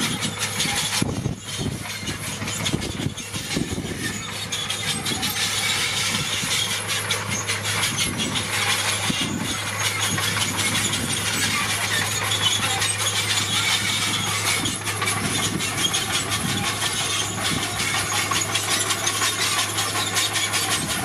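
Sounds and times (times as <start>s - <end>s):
low diesel engine hum: 0.0s - 21.0s
metal and gravel rattling and scraping: 0.0s - 21.0s.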